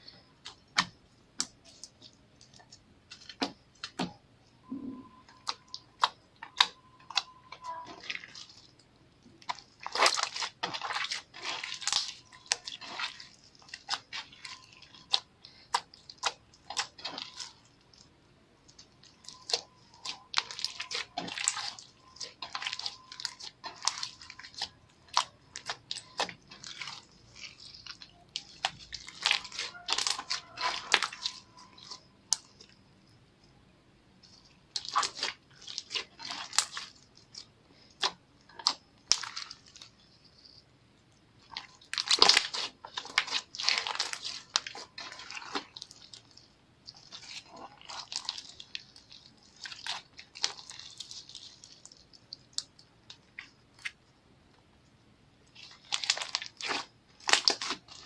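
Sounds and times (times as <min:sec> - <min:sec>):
slime squelching by hand: 0:00.0 - 0:58.0.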